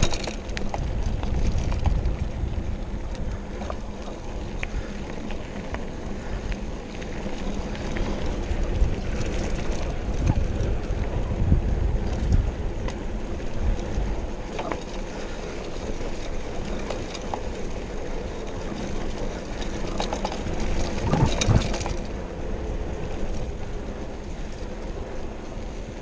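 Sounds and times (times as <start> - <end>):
wind on microphone: 0.0 - 14.8, 19.1 - 26.0
bike clattering over rough ground: 0.0 - 26.0
bike rattling: 0.0 - 26.0
tyres rolling on dirt: 0.0 - 26.0.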